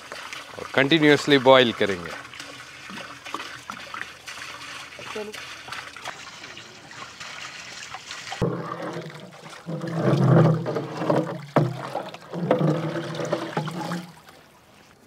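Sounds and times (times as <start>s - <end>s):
water pouring into metal pot: 0.0s - 14.2s
ladle sloshing water in pot: 0.0s - 14.8s.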